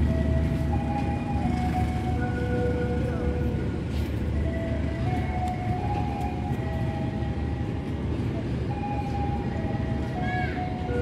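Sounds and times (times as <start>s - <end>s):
diesel train idling rumble: 0.0s - 11.0s.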